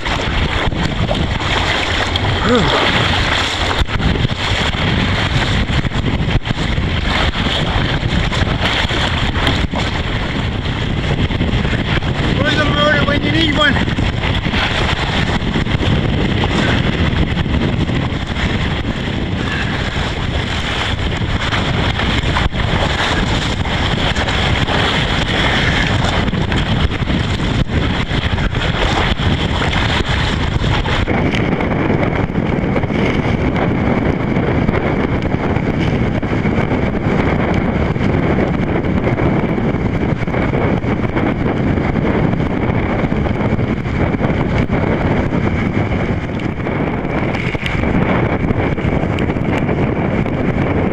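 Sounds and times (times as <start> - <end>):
rough water: 0.0 - 50.9
wind buffeting microphone: 0.0 - 50.9.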